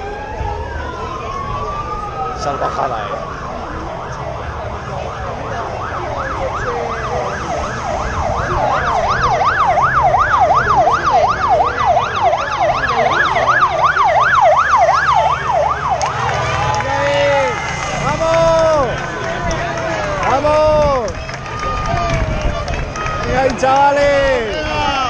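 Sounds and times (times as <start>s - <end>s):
siren yelping: 0.0s - 23.4s.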